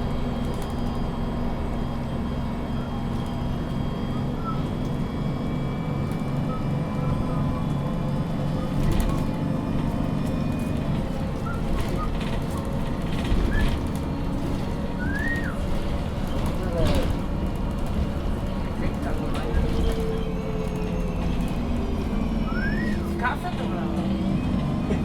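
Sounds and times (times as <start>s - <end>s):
bus engine droning: 0.0s - 25.0s.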